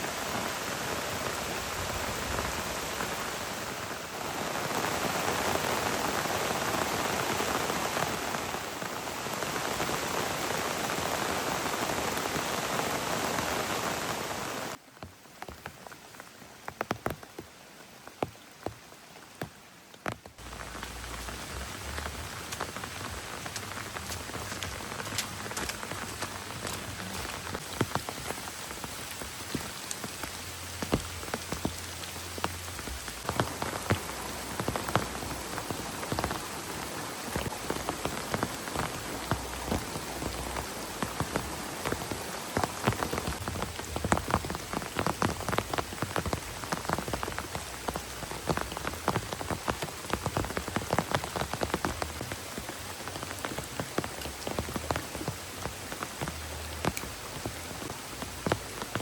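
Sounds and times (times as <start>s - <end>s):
heavy rain falling: 0.0s - 59.0s
raindrops ticking on a surface: 0.0s - 59.0s.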